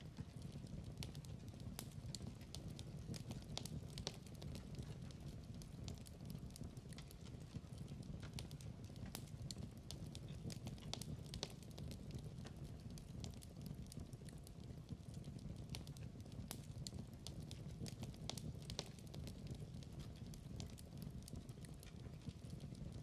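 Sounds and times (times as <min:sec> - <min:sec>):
fire rumbling: 0:00.0 - 0:23.0
wood crackling and popping: 0:00.0 - 0:23.0.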